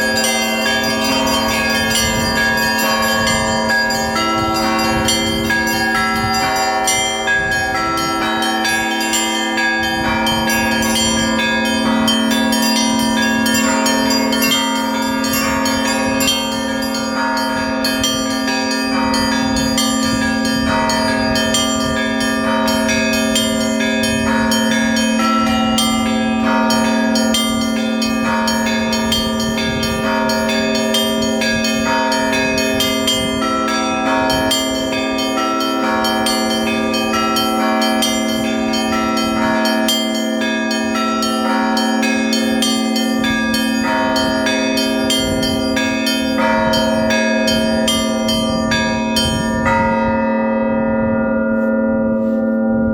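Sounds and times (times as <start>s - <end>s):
deep bell ringing: 0.0s - 52.9s
small church bells ringing: 0.0s - 52.9s.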